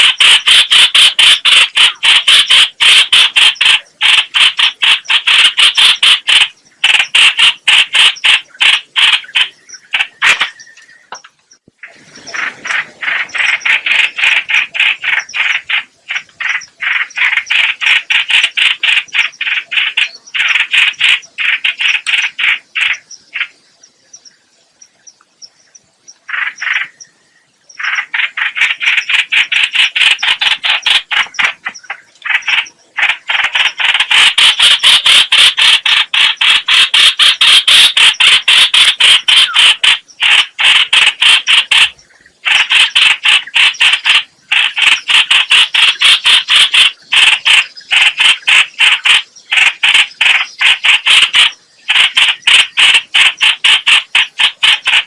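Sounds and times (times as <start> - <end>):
bird chattering harshly: 0.0 - 11.2, 11.8 - 23.6, 26.3 - 27.0, 27.8 - 55.0.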